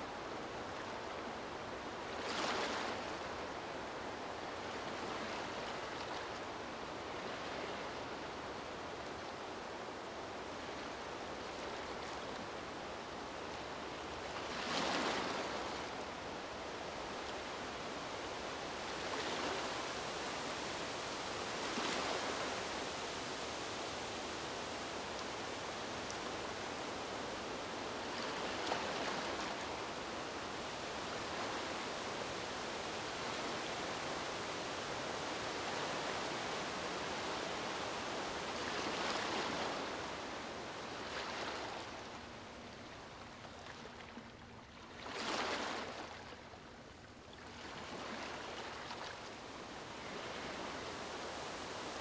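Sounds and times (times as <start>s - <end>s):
breeze in palm trees: 0.0s - 52.0s
waves lapping: 0.0s - 52.0s.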